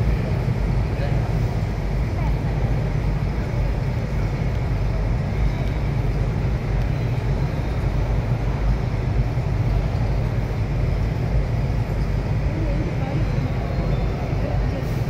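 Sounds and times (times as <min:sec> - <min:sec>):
low roar of terminal hall: 0:00.0 - 0:15.0.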